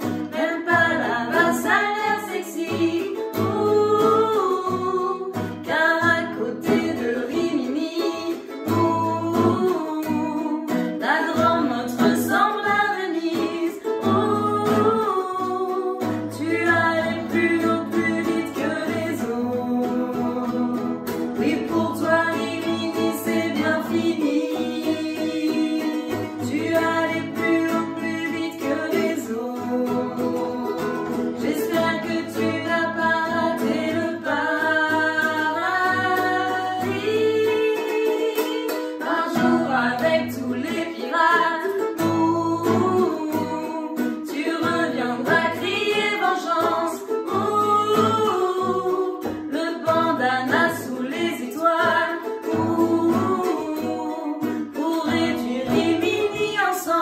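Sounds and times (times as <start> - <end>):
acoustic guitar: 0.0 - 57.0
ukulele: 0.0 - 57.0
women singing: 0.0 - 57.0.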